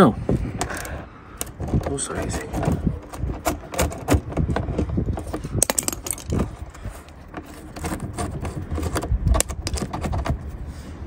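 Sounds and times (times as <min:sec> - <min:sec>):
handling noise: 0:00.3 - 0:10.6.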